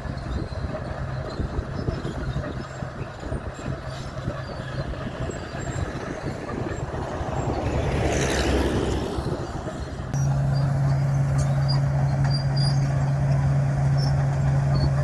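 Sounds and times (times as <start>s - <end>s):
bulldozer tracks rattling: 0.0s - 15.0s
diesel engine droning: 0.0s - 15.0s.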